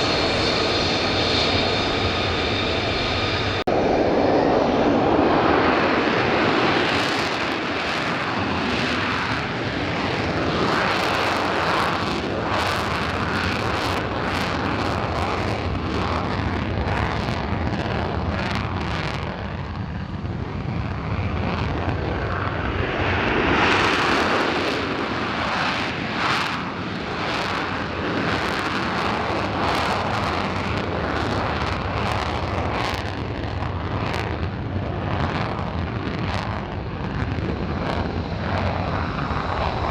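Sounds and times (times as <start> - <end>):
military aircraft engine rushing: 0.0 - 39.9.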